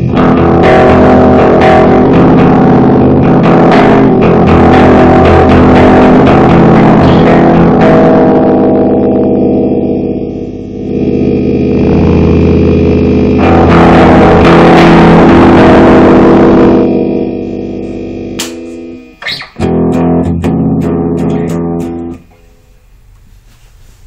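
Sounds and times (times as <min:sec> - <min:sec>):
sharp guitar strums: 0:00.0 - 0:22.5
guitar chords ringing: 0:00.0 - 0:23.0.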